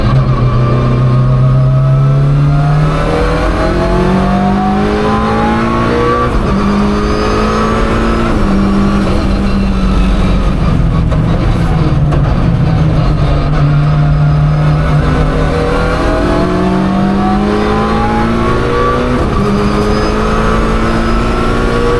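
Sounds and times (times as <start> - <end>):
car engine accelerating hard: 0.0 - 21.9.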